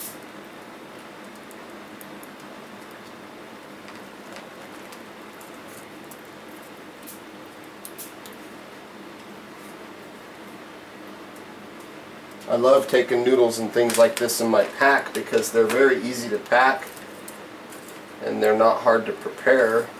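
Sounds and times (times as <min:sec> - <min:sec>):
stove fire hissing: 0:00.0 - 0:19.9.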